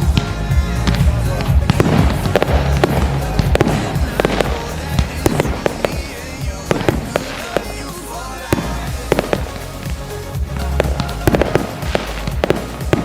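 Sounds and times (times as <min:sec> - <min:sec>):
fireworks bangs and cracks: 0:00.0 - 0:13.0
music playing: 0:00.0 - 0:13.0.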